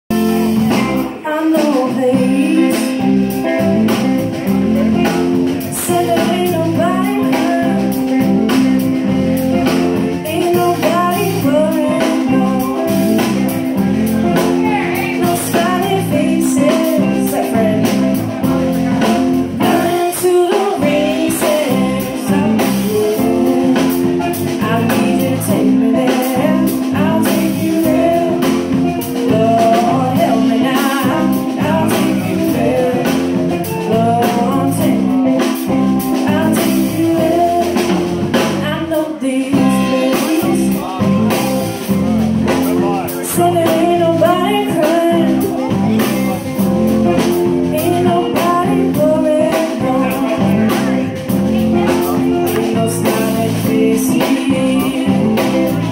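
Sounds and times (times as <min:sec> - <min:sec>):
drum kit: 0:00.0 - 0:55.9
electric bass guitar: 0:00.0 - 0:55.9
lead singer singing: 0:00.1 - 0:55.9.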